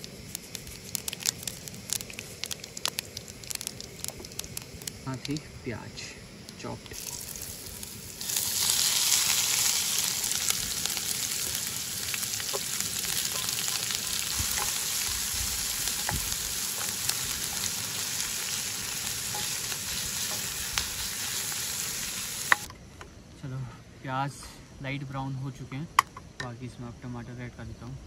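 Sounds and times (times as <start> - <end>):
onions sizzling in hot oil: 0.0 - 22.7.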